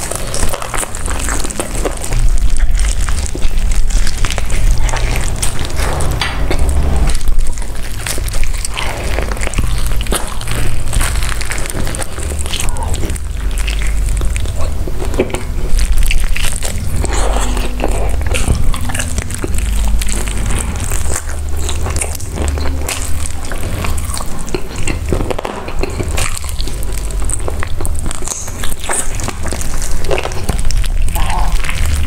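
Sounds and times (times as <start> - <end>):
crunching fried chicken: 0.0 - 32.0
wet chewing: 0.0 - 32.0.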